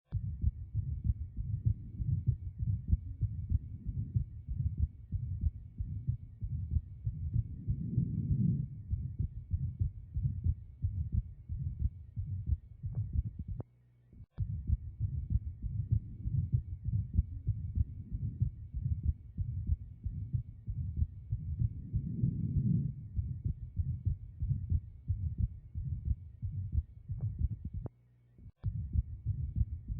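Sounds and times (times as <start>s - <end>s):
heartbeats with murmur: 0.1s - 13.6s, 14.4s - 27.9s, 28.6s - 29.9s.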